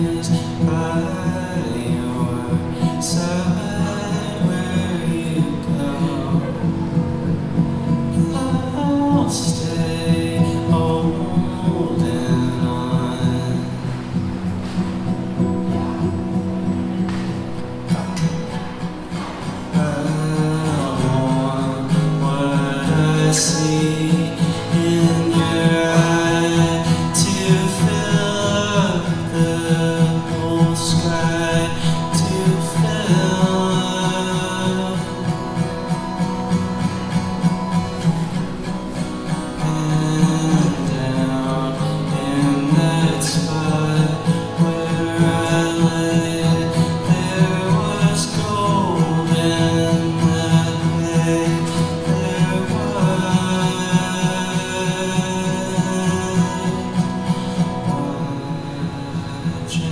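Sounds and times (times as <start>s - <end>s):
acoustic guitar: 0.0s - 59.9s
man singing: 0.0s - 59.9s.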